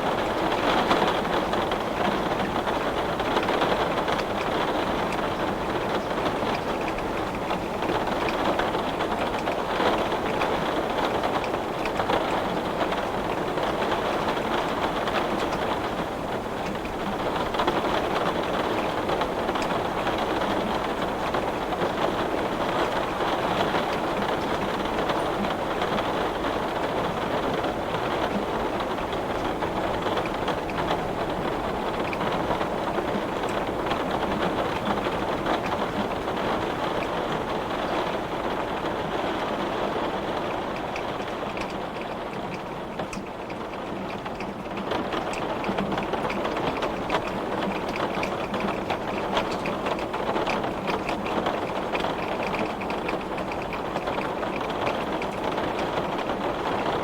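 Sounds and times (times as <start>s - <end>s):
heavy rain on window glass: 0.0s - 57.0s.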